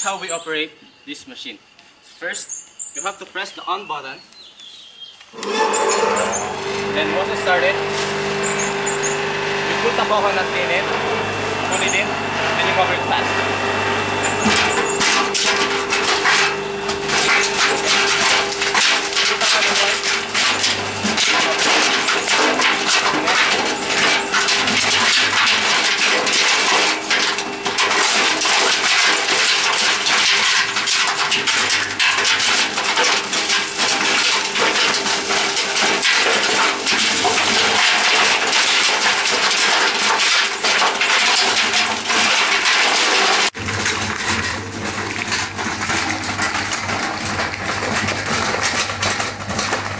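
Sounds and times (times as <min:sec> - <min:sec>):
coconut shredder chopping clatter: 0:05.4 - 0:49.9
machine running hum: 0:05.4 - 0:49.9.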